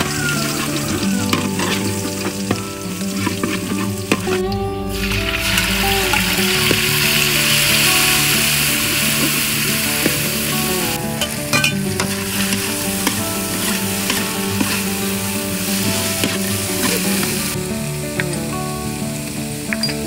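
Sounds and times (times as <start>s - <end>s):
paste sizzling in hot oil: 0.0s - 17.6s
spatula scraping metal wok: 0.0s - 17.6s.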